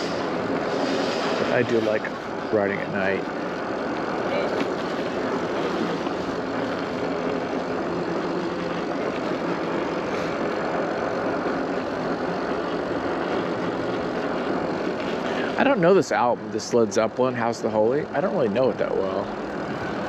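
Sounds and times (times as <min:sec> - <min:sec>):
wind rush: 0:00.0 - 0:17.1
road noise: 0:00.0 - 0:20.0.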